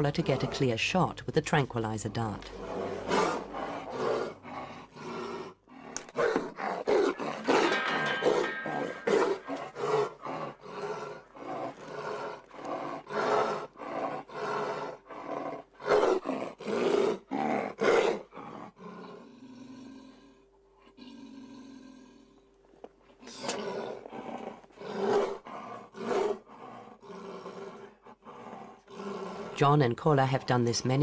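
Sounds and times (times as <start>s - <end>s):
tiger cub growling and snarling: 0.0s - 1.2s, 1.8s - 22.6s, 23.2s - 31.0s.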